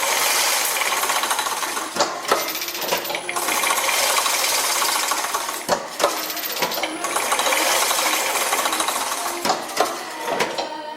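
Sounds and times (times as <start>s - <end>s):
metallic machine clatter: 0.0s - 10.7s.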